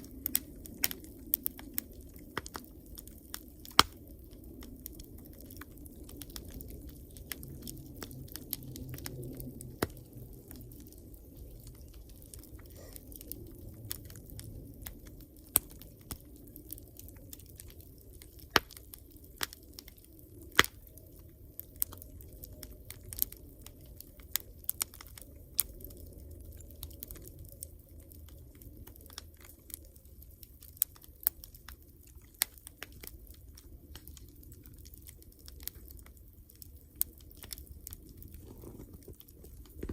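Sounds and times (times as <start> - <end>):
campfire crackles and pops: 0.0 - 39.9
low rumble of flames: 0.0 - 39.9.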